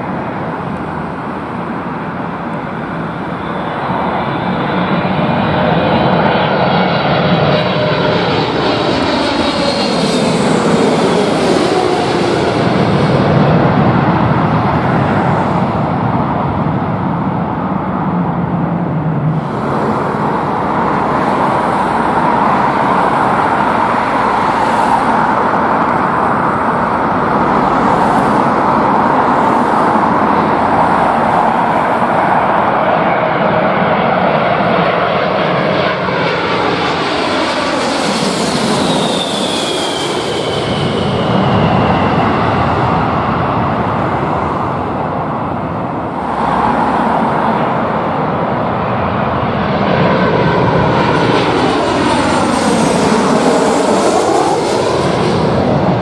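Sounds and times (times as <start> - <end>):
jet engine whine: 0.0 - 56.0
jet engines roaring: 0.0 - 56.0.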